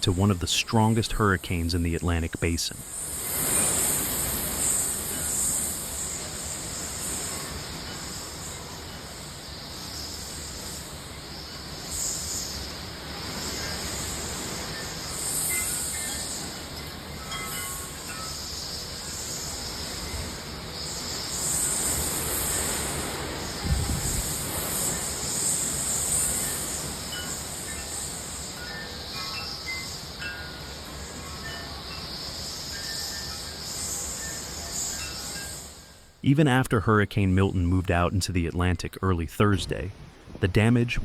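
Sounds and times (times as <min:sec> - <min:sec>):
hurricane wind gusting: 0:00.0 - 0:36.2.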